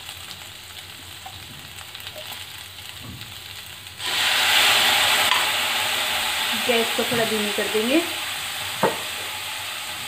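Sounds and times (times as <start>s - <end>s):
loud sizzle: 0.0s - 10.0s
vegetables frying gently: 0.0s - 10.0s.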